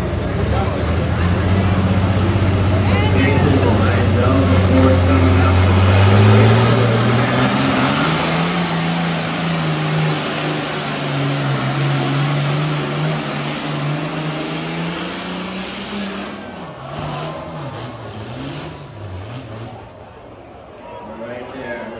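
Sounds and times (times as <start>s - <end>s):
diesel tractor engine under load: 0.0s - 20.8s.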